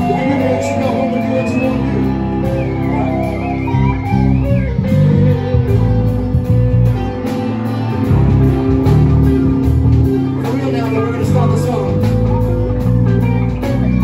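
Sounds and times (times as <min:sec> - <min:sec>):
bass guitar: 0:00.0 - 0:14.0
bending guitar lead line: 0:00.0 - 0:14.0
drums: 0:00.0 - 0:14.0
electric guitars: 0:00.0 - 0:14.0.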